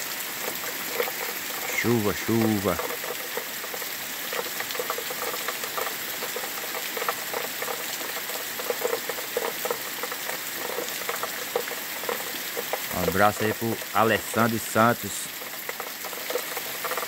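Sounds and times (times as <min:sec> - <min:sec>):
raindrops ticking on surfaces: 0:00.0 - 0:17.0
steady rain hiss: 0:00.0 - 0:17.0.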